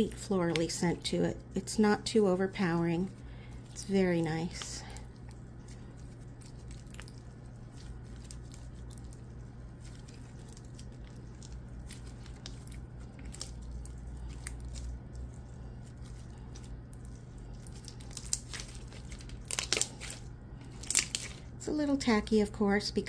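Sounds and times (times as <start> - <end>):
slime squishing: 0.0 - 22.5.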